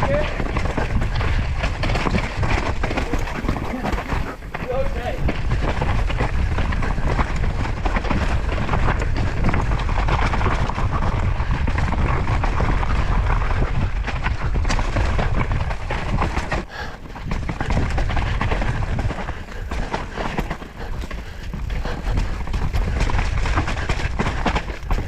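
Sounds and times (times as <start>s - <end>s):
bike tyre noise on dirt: 0.0s - 25.0s
wind rumble on microphone: 0.0s - 25.0s.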